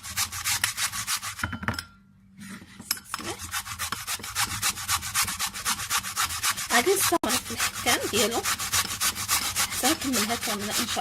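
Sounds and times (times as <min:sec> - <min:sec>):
vegetable grated on hand grater: 0:00.0 - 0:01.4, 0:03.2 - 0:11.0.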